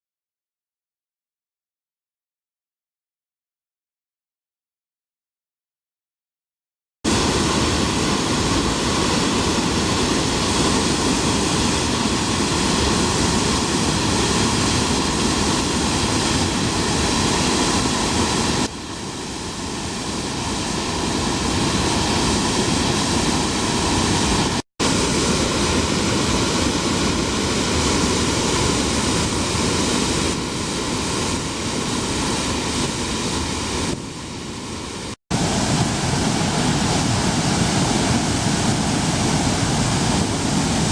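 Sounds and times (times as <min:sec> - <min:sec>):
water rushing from a dam: 0:07.1 - 0:40.9.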